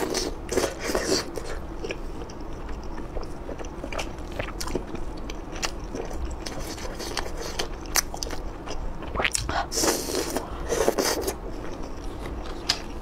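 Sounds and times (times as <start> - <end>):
crunchy food chewing: 0.0 - 13.0.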